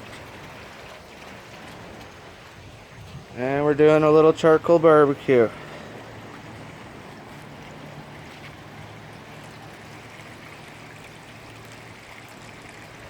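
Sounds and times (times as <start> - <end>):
waterfall splashing and trickling: 0.0 - 13.0.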